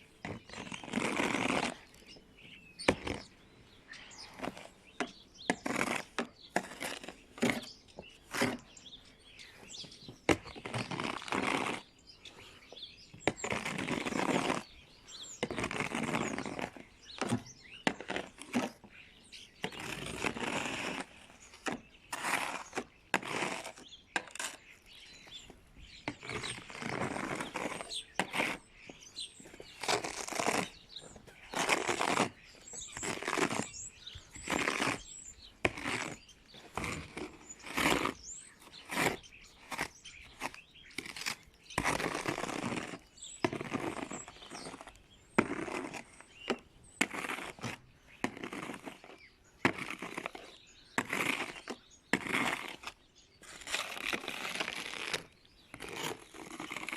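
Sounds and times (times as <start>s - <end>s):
scraping ice from a car: 0.2s - 12.6s, 13.2s - 56.9s.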